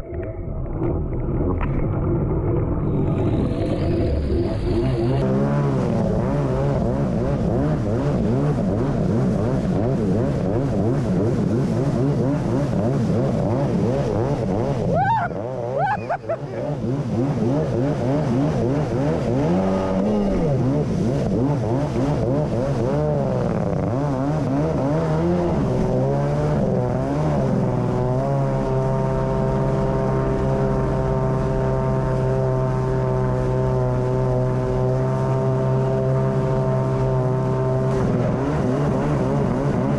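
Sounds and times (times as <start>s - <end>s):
jet ski engine revving: 0.2s - 39.9s.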